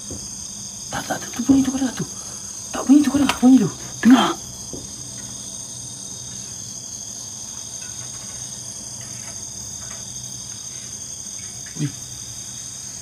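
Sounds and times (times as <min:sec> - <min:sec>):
crickets and insects chirping: 0:00.0 - 0:13.0
faint low hum: 0:00.0 - 0:13.0.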